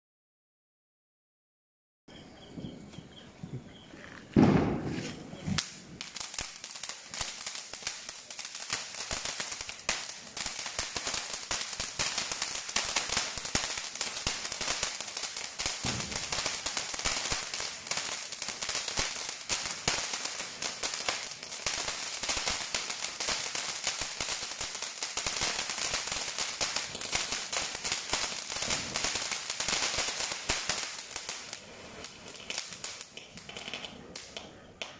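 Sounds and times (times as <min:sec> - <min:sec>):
firework fountain hissing and crackling: 0:04.2 - 0:34.9.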